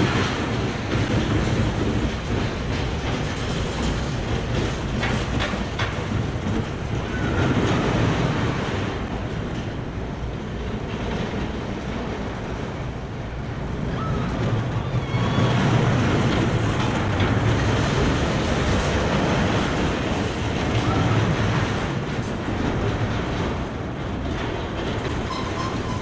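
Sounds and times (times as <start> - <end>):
roller coaster rumbling on track: 0.0 - 26.0.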